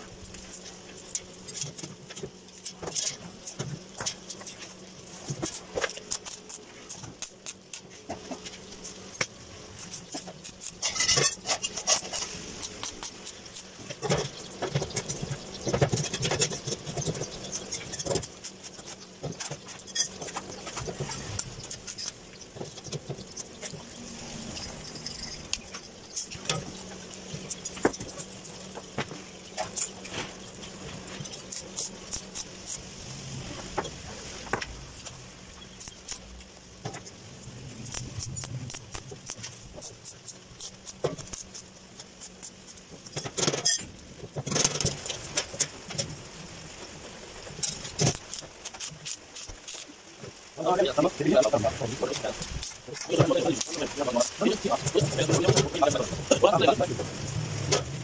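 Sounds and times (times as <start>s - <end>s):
welding arc crackling and hissing: 0.0s - 58.0s.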